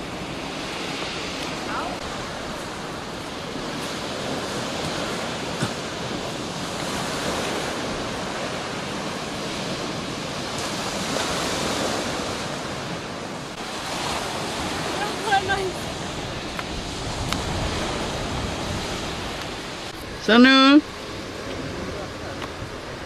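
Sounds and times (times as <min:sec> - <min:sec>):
surf on shingle beach: 0:00.0 - 0:23.0
wind buffeting microphone: 0:00.0 - 0:23.0.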